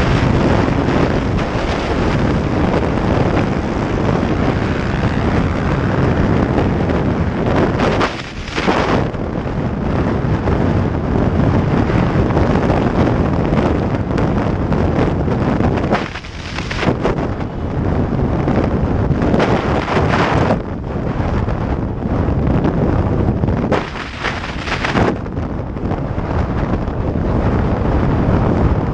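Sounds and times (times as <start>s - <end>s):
motorcycle engines running hard: 0.0s - 28.9s
wind noise on microphone: 0.0s - 28.9s.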